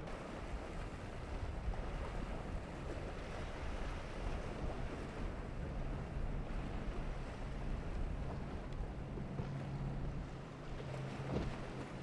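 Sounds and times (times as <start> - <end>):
wind on microphone: 0.0 - 11.8
low engine hum: 0.0 - 12.0
outboard engines roaring: 0.0 - 12.0
water rushing off hull: 0.0 - 12.0.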